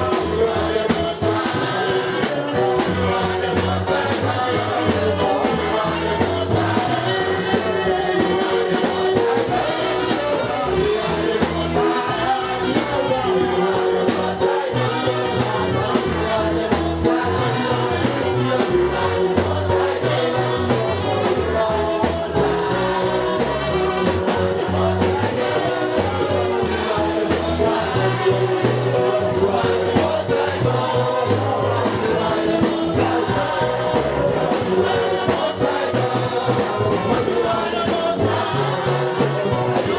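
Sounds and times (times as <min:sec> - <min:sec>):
band with bass beat: 0:00.0 - 0:39.9
choir singing gospel: 0:00.0 - 0:39.9.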